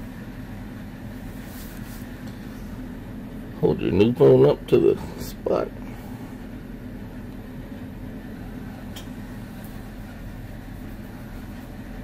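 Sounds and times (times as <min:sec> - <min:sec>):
low room tone hum: 0:00.0 - 0:12.0.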